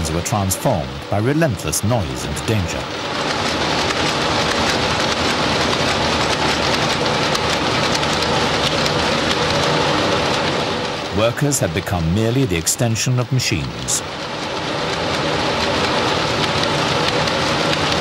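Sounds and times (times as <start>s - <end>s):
power looms clattering: 0.0s - 18.0s.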